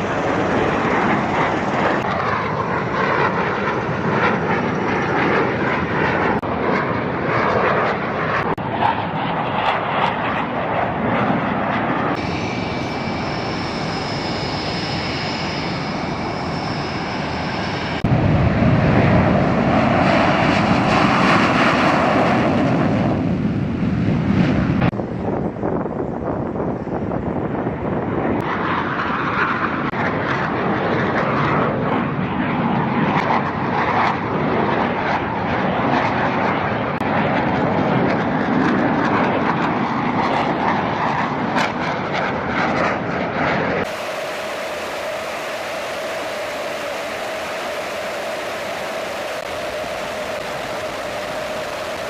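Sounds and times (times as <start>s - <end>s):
jet engines running: 0.0s - 52.0s.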